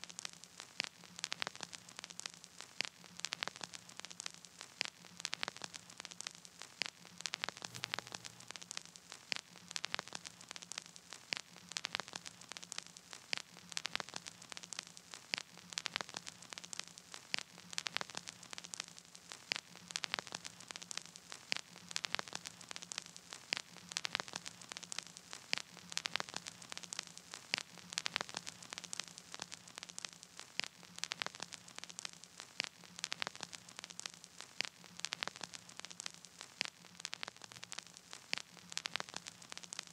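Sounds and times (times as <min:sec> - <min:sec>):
crackling static: 0:00.0 - 0:39.9.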